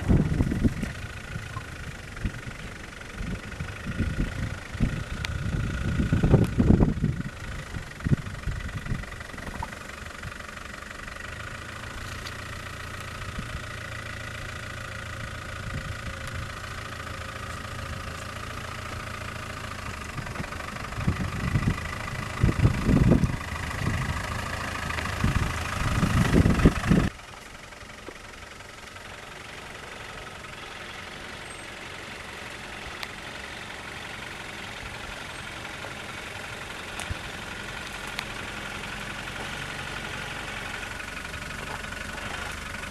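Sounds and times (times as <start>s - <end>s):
diesel engine running at low revs: 0.0s - 42.9s.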